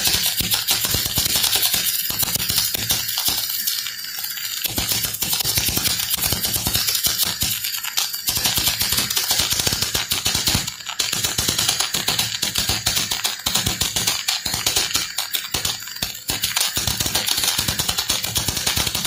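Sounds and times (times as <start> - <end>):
welding arc crackling: 0.0 - 19.0.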